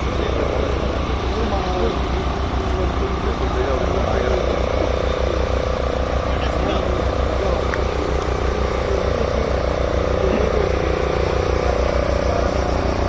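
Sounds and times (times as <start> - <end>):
engine running low throb: 0.0 - 13.0.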